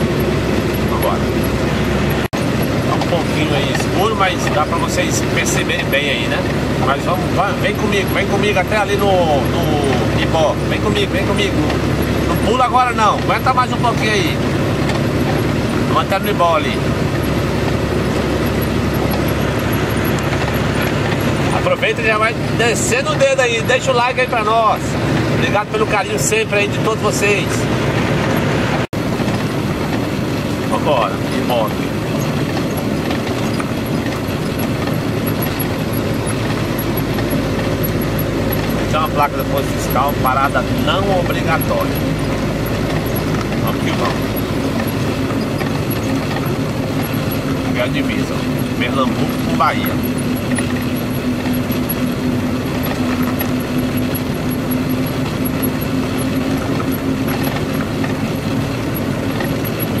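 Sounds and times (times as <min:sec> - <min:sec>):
truck engine and road noise: 0:00.0 - 1:00.0.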